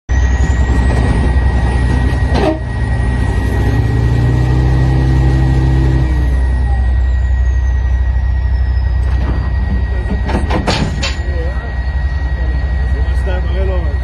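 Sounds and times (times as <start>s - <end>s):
bulldozer diesel engine rumbling: 0.1s - 14.0s.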